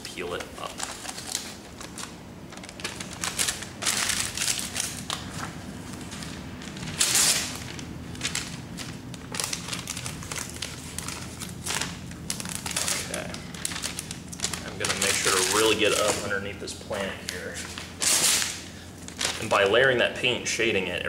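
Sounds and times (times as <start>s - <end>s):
paper sheet crinkling and rustling: 0.3s - 19.8s.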